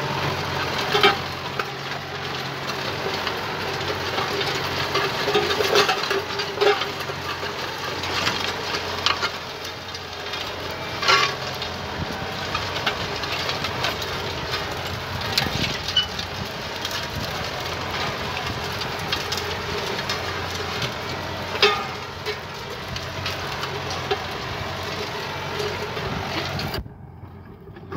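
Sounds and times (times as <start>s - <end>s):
harrow discs clanking: 0.0s - 27.9s
tractor engine running: 0.0s - 27.9s.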